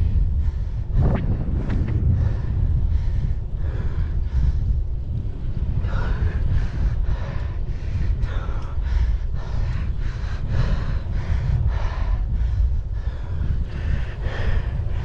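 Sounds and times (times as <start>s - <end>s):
wind rumble on microphone: 0.0s - 15.0s
person breathing hard: 2.0s - 15.0s.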